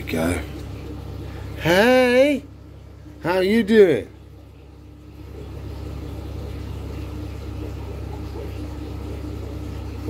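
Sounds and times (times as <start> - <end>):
faint hum: 0.0 - 10.0
low mechanical rumble: 0.0 - 10.0.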